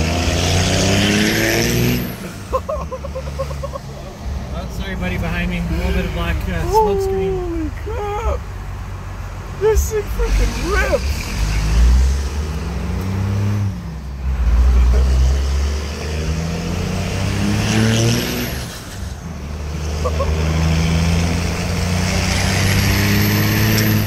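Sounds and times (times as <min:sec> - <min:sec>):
diesel engine accelerating: 0:00.0 - 0:24.0.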